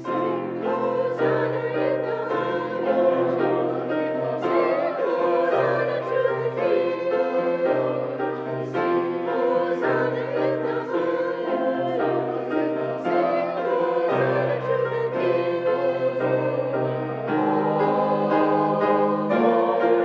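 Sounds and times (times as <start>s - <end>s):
choir singing with accompaniment: 0.0s - 20.0s.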